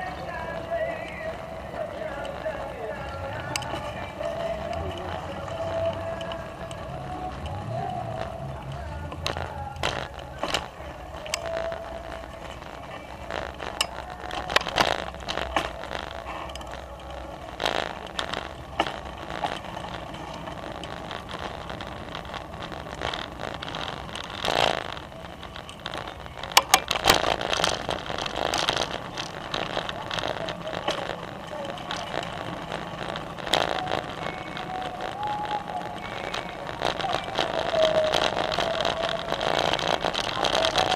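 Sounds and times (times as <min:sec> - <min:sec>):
bicycle tyres rolling on paving: 0:00.0 - 0:40.9.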